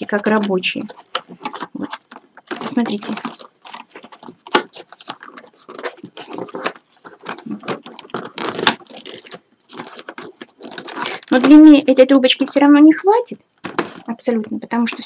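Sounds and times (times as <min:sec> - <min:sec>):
paper tubes crackling and rustling: 0:00.0 - 0:15.0.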